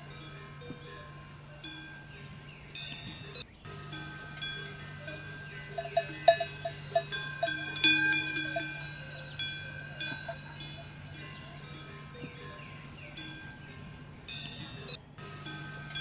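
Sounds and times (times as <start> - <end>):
small metal bells clanking: 0.0 - 16.0
steady low hum: 0.0 - 16.0.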